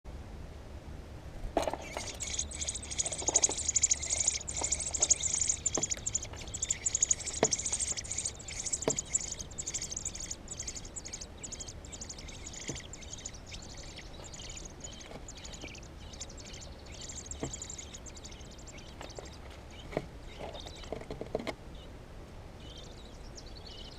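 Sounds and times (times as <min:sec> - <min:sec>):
nestling birds chirping: 0:01.6 - 0:21.9, 0:22.6 - 0:23.9.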